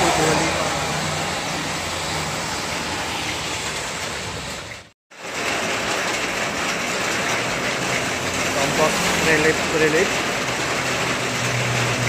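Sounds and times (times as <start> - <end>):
heavy rain hissing: 0.0 - 12.0
tyres swishing on wet road: 0.0 - 12.0.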